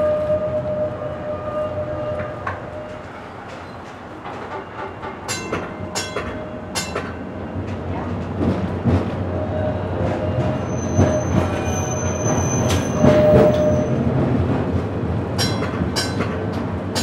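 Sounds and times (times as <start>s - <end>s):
streetcar wheels on rail: 0.0s - 17.0s.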